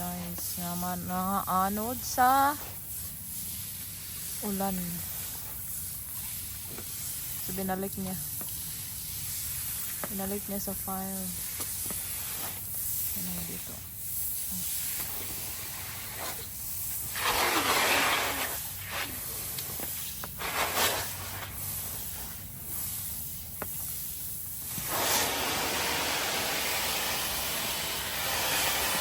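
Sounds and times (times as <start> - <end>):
rain hiss: 0.0 - 29.0.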